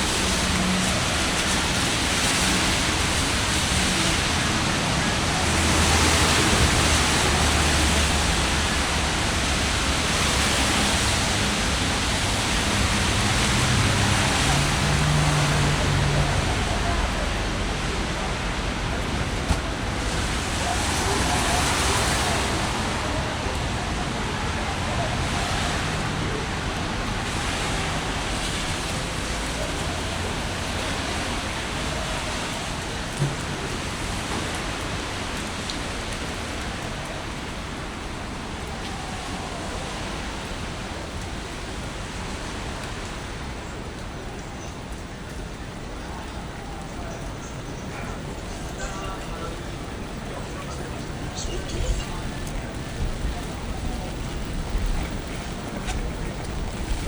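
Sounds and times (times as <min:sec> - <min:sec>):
heavy rain and wind: 0:00.0 - 0:57.0.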